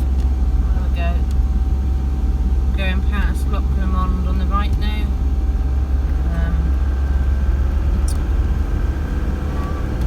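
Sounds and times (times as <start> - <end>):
engine and road noise in van: 0.0 - 10.0.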